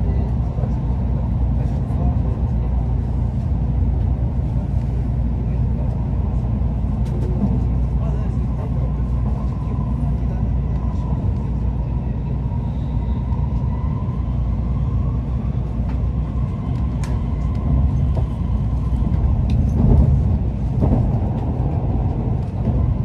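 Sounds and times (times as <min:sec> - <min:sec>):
train interior low rumble: 0:00.0 - 0:23.0.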